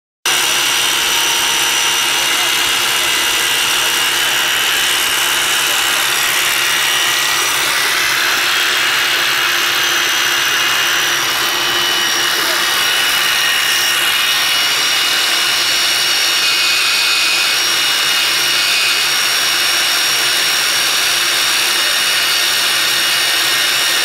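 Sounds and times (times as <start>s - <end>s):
core drill motor whine: 0.2s - 24.0s
drill grinding concrete hiss: 0.2s - 24.0s.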